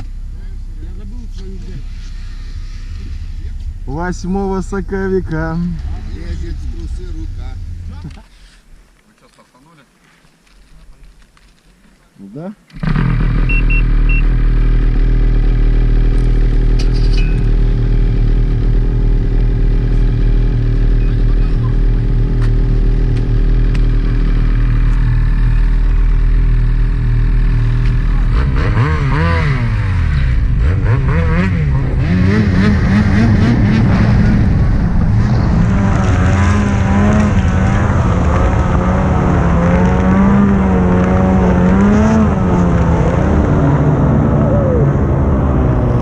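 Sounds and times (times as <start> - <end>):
snowmobile engine revving: 0.0 - 8.6, 12.7 - 46.0.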